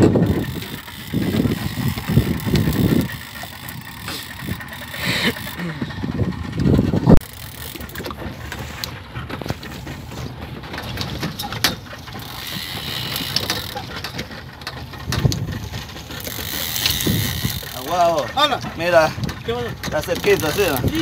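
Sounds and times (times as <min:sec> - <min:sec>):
steady low rumble: 0:00.0 - 0:20.1.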